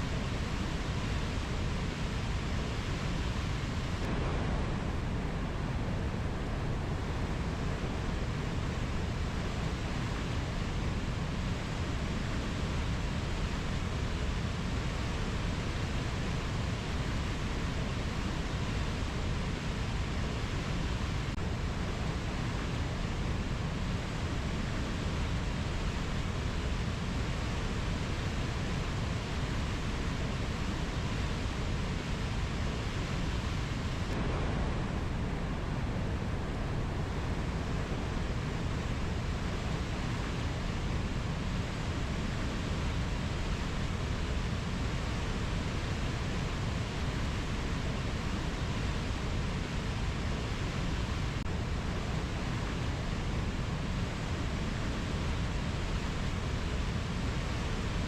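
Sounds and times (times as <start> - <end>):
rainforest rushing noise: 0.0 - 58.0.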